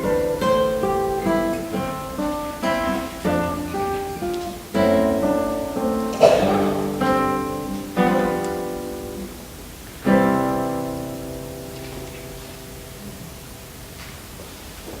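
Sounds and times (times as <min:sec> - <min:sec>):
guitar chords ringing: 0:00.0 - 0:13.5.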